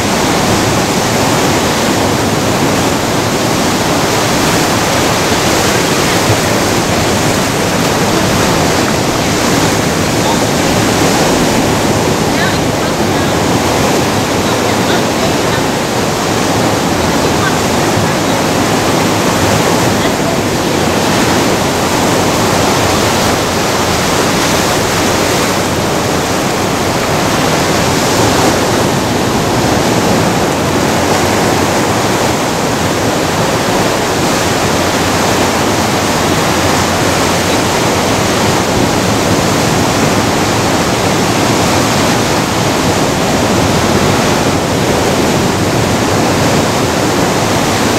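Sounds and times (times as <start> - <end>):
waves breaking on rocky shore: 0.0 - 47.9.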